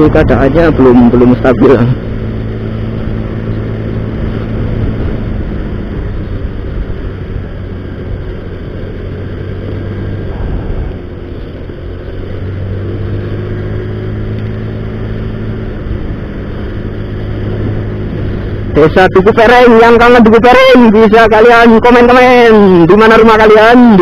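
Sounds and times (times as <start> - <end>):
scooter engine humming: 0.0 - 20.0
wind and road noise: 0.0 - 24.0.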